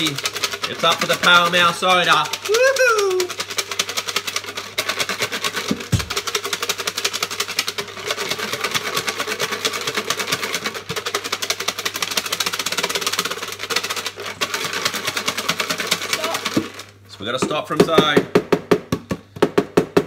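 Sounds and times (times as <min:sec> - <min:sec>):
paper tickets rattling in plastic box: 0:00.0 - 0:16.9.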